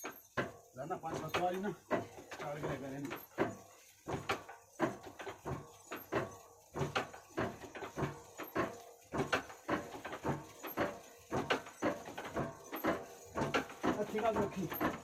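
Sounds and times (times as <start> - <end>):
diesel engine knocking slowly: 0.1 - 15.0.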